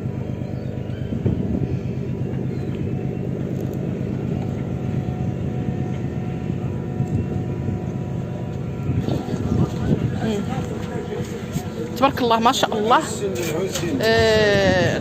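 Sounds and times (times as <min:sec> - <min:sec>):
engine idling: 0:00.0 - 0:14.8.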